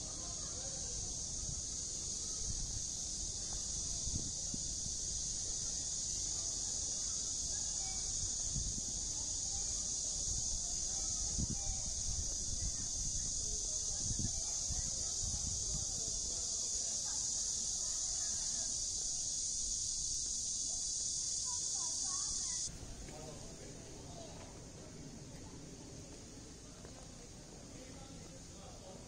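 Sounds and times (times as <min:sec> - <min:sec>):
faint voices of passers-by: 0:00.0 - 0:29.0
insects chirring in trees: 0:00.0 - 0:29.0.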